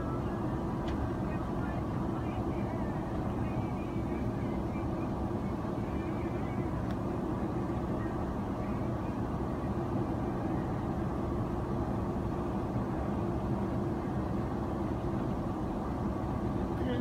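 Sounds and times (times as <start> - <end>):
airliner engine and airflow roar: 0.0 - 17.0
steady cabin hum: 0.0 - 17.0.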